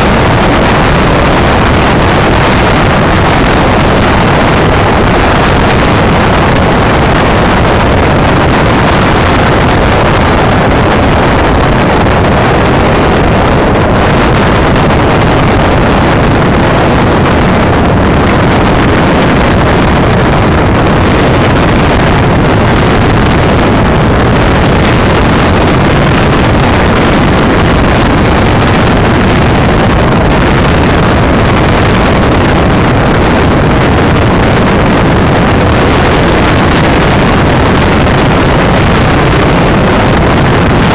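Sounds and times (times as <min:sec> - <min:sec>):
wind rushing on microphone: 0:00.0 - 0:40.9.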